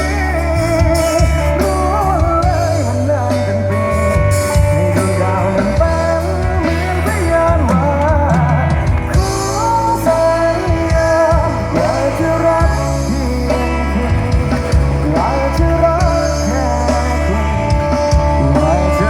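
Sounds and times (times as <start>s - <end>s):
bass line: 0.0s - 19.0s
drums: 0.0s - 19.0s
lead singer: 0.0s - 19.0s.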